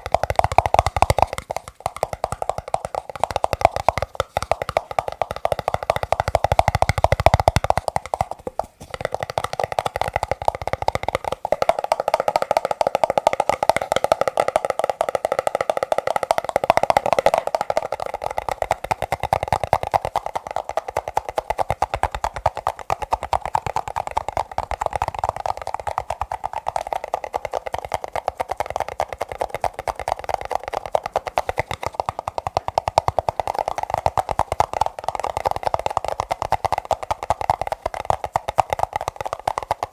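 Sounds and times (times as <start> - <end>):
fast tapping on plastic cups: 0.0 - 39.9.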